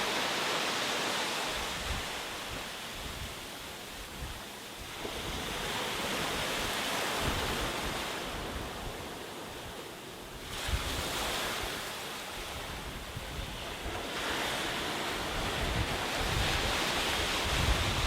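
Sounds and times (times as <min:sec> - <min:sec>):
sea waves breaking on beach: 0:00.0 - 0:18.0
wind rumbling on microphone: 0:00.0 - 0:18.0.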